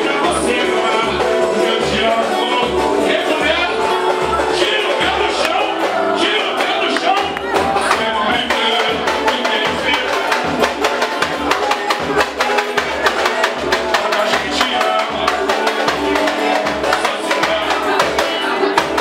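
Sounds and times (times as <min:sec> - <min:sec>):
bass beat: 0:00.0 - 0:19.0
busy percussion: 0:00.0 - 0:19.0
live band playing upbeat song: 0:00.0 - 0:19.0.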